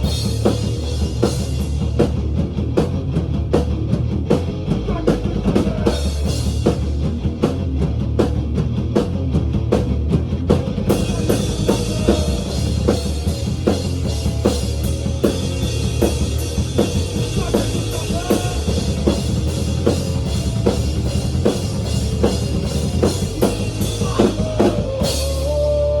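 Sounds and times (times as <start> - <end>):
rock music with drums: 0.0 - 26.0.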